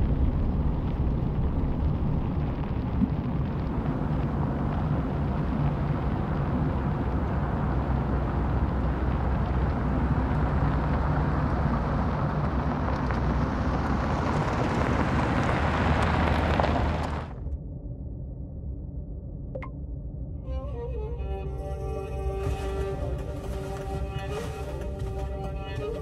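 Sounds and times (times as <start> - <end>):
deep steady rumble: 0.0 - 26.0.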